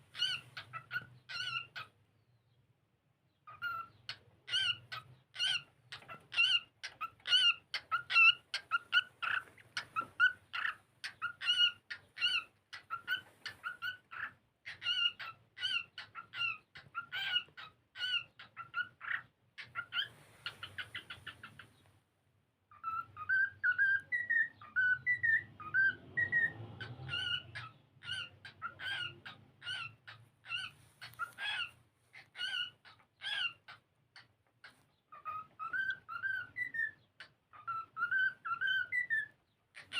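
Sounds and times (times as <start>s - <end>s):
cockatiel whistling: 3.5s - 21.7s, 22.7s - 33.8s, 35.1s - 39.9s.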